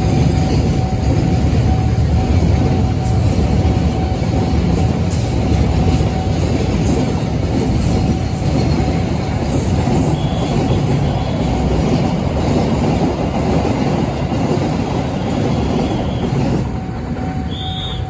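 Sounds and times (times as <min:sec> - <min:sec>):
train wheels running on track: 0:00.0 - 0:18.0.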